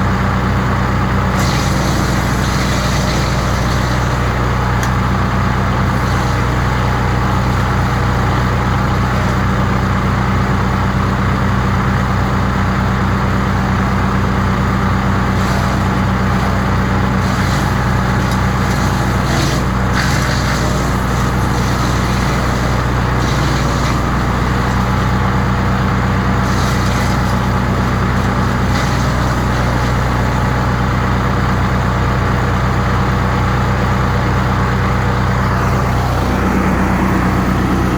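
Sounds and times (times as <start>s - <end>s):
wood chipper engine running: 0.0s - 37.9s.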